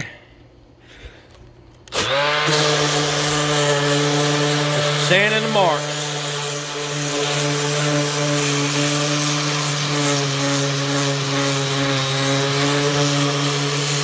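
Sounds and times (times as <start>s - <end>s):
orbital sander on wood: 1.9s - 14.0s.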